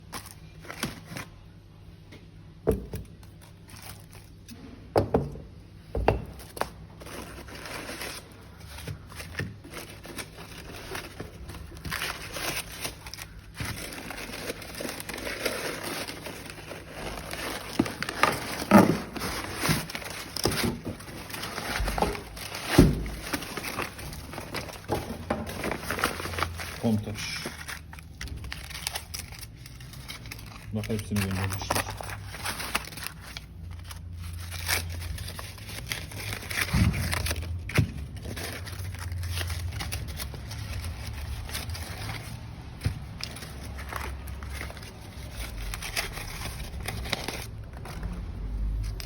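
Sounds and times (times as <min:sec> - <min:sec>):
packaging crinkling and rustling: 0:00.0 - 0:04.8, 0:05.8 - 0:49.0.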